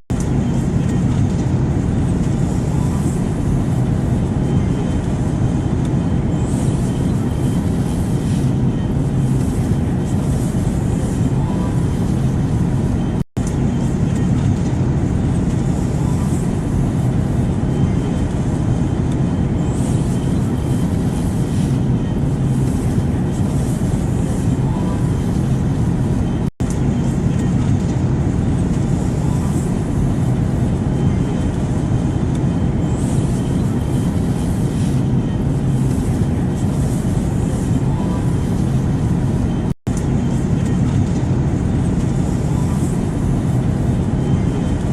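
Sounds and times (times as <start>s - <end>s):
airplane rumble and hiss: 0.0s - 44.9s.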